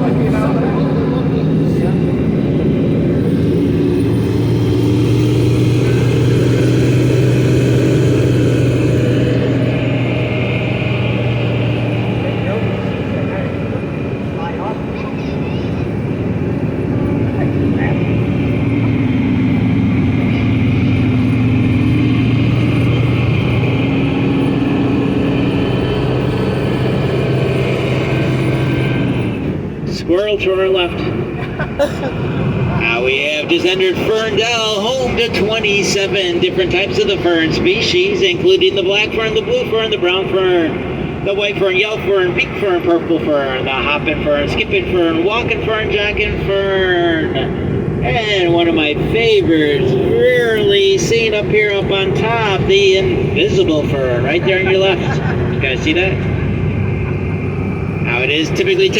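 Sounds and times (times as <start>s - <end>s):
driving noise: 0.0s - 58.9s
vehicle engine humming: 0.0s - 58.9s.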